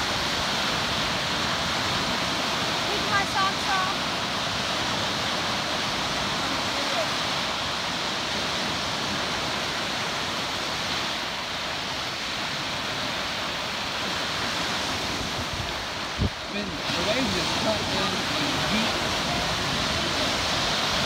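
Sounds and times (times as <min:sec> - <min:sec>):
waves breaking on shore: 0:00.0 - 0:21.0.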